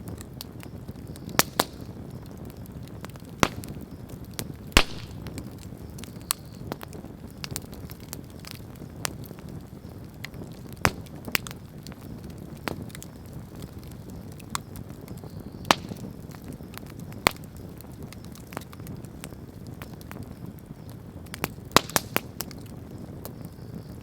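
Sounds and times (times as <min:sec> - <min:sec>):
campfire flame rumble: 0:00.0 - 0:24.0
fire crackling: 0:00.0 - 0:24.0
sharp fire pops: 0:00.0 - 0:24.0.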